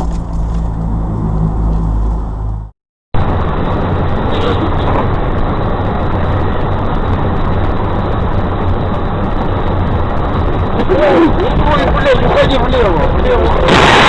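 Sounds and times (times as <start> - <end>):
low hum: 0.0 - 14.0
road noise: 0.0 - 14.0
vehicle engine: 0.0 - 14.0.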